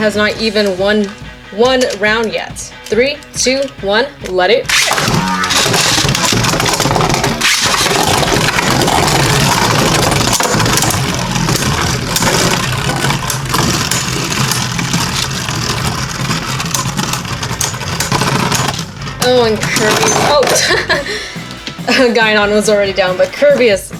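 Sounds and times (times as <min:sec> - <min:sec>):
spinning tops whirring and grinding: 0:00.0 - 0:23.9.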